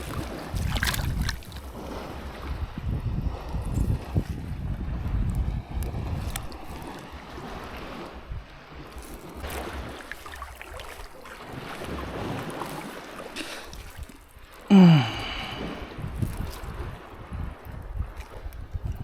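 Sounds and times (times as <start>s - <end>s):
small splashes: 0.0s - 2.3s, 5.8s - 19.0s
wind buffeting microphone: 0.0s - 13.0s, 14.8s - 19.0s
water sloshing: 0.0s - 19.0s.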